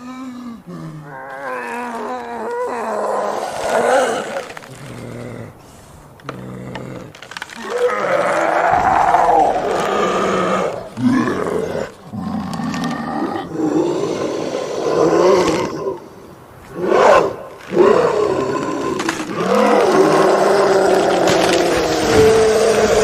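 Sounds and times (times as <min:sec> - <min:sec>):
animal-like growls and roars: 0:00.0 - 0:23.0.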